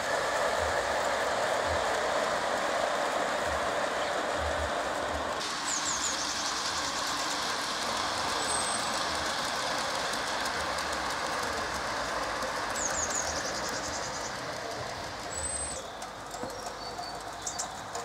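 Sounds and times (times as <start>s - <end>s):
small metal wheels rumbling on rails: 0.0s - 18.0s.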